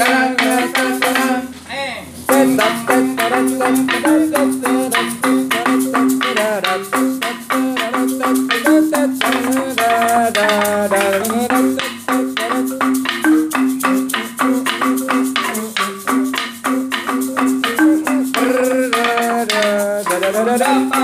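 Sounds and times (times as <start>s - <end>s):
pitched struck notes: 0.0s - 21.0s
sharp percussion strokes: 0.0s - 21.0s.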